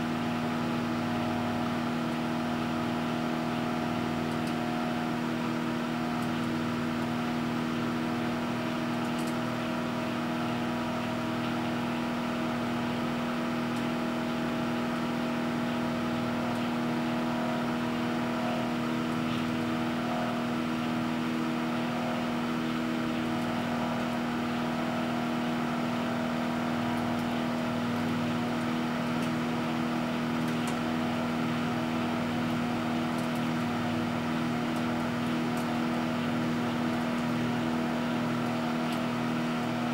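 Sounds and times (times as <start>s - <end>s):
microwave oven humming: 0.0s - 39.9s.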